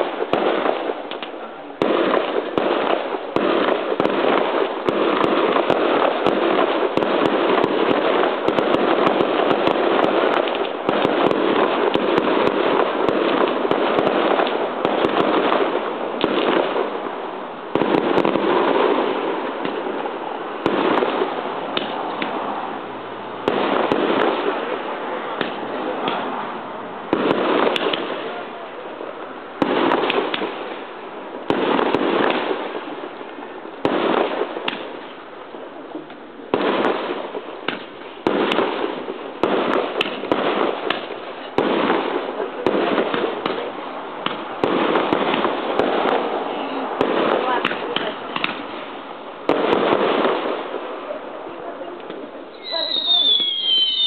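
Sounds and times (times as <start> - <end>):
firework shells bursting: 0.0 - 51.0, 52.0 - 54.0
firework crackles: 0.0 - 54.0.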